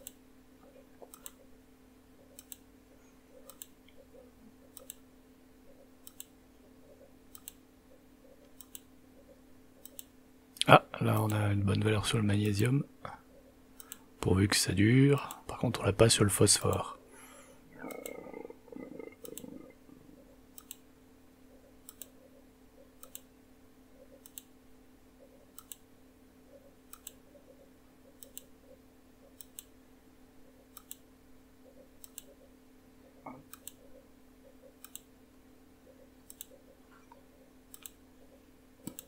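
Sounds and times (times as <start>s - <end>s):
faint electrical hum: 0.0s - 39.0s.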